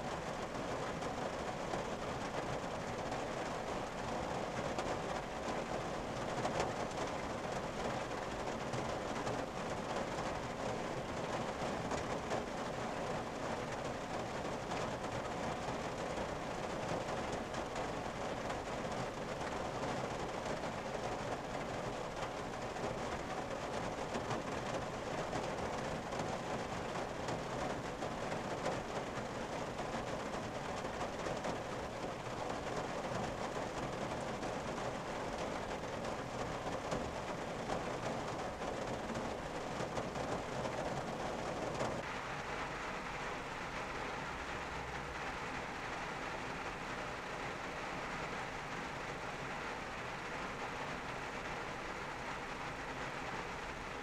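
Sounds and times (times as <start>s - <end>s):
rain drumming on car roof: 0.0s - 54.0s.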